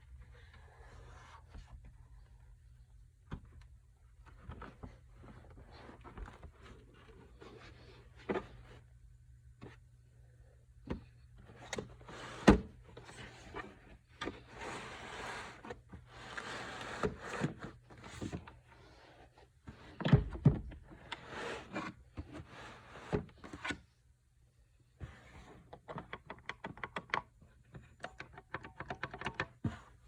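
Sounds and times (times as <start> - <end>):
faint low hum: 0.0 - 26.1.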